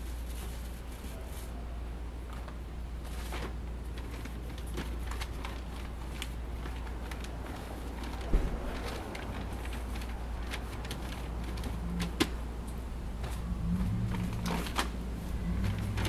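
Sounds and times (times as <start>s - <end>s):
low background hum: 0.0s - 16.0s
plastic bags rustling: 0.0s - 16.0s.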